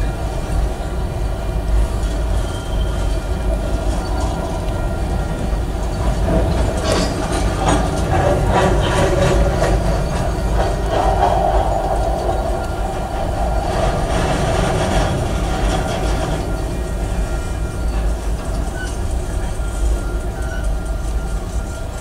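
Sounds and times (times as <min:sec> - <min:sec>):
freight train rumbling: 0:00.0 - 0:22.0
wheels clacking over rail joints: 0:02.0 - 0:22.0.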